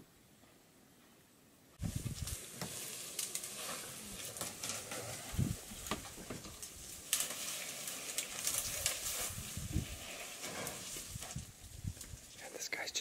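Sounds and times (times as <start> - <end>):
twigs crackling and snapping: 1.8 - 12.4
leaves rustling: 1.8 - 13.0.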